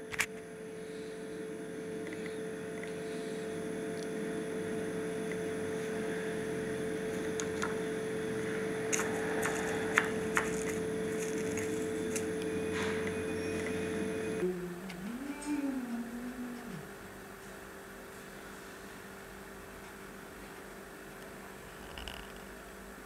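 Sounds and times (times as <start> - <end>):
room hum with held tone: 0.0 - 23.0.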